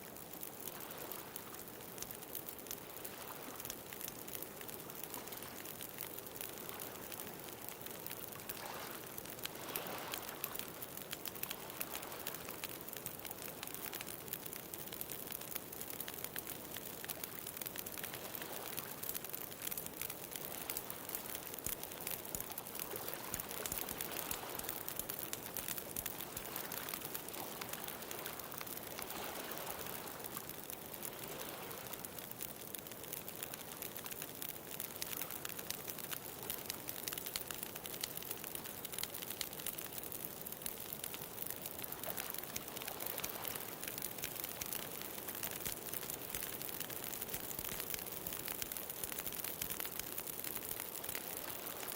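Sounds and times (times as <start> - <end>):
bonfire crackling and popping: 0.0 - 51.9
ocean waves washing onto beach: 0.6 - 15.0, 16.0 - 39.9, 40.8 - 51.9.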